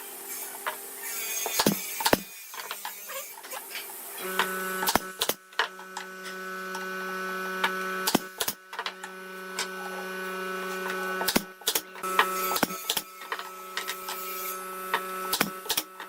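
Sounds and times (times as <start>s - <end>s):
small electric motor humming: 0.0s - 16.0s.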